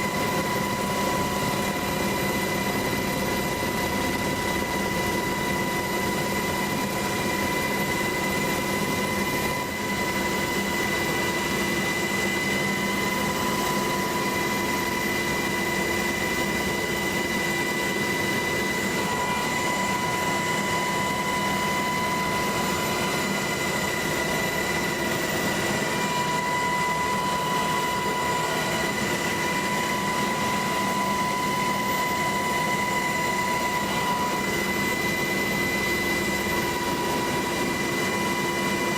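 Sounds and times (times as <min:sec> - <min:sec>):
helicopter roar with high whine: 0:00.0 - 0:38.9.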